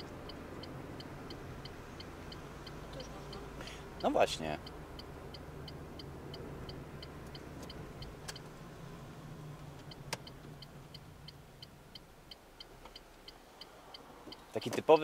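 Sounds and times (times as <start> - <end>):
car engine hum: 0.0 - 15.0
road noise: 0.0 - 15.0
turn signal ticking: 0.0 - 15.0.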